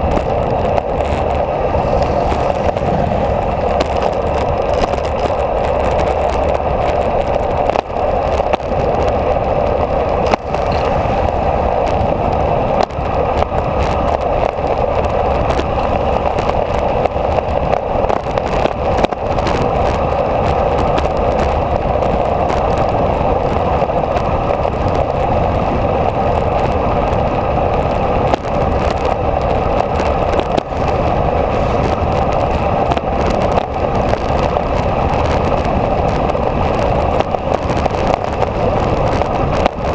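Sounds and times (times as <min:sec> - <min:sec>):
motorcycle engine running low: 0:00.0 - 0:39.9
wind rush on microphone: 0:00.0 - 0:39.9.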